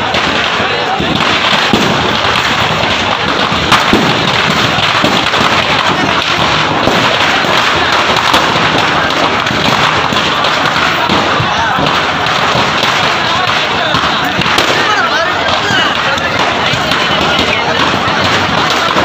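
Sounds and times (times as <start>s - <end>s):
firecrackers crackling and popping: 0.0s - 19.0s
loud firecracker bang: 0.0s - 19.0s
voices of onlookers: 0.0s - 19.0s.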